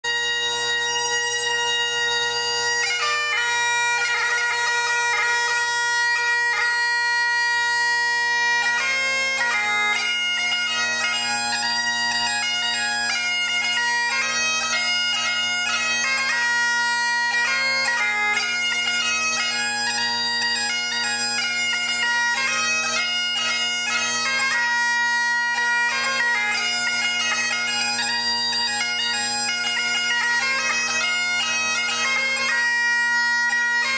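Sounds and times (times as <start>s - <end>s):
bagpipe chanter melody: 0.0s - 33.9s
bagpipe drones: 0.0s - 33.9s.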